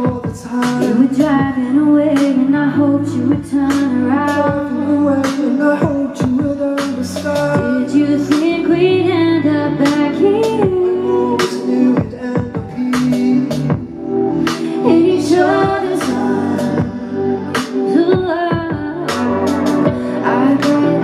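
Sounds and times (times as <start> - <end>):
woman and man singing: 0.0 - 13.9, 14.5 - 21.0
steady beat and bass line: 0.0 - 21.0.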